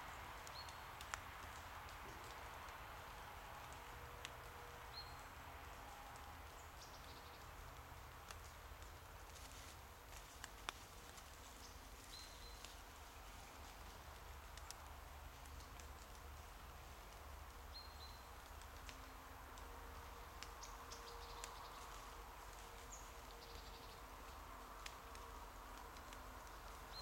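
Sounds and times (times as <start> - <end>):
paws rustling in dry leaves: 0.2 - 27.0.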